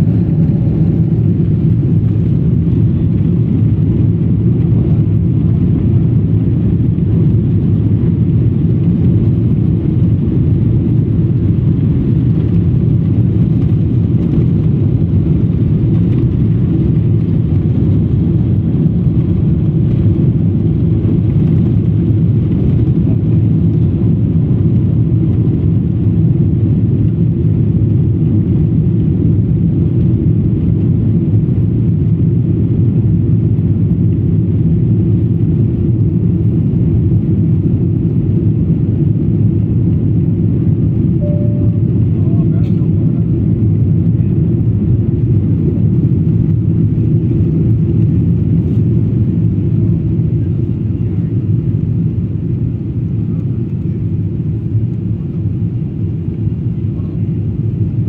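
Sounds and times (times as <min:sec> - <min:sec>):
airplane cabin engine noise: 0:00.0 - 0:58.0.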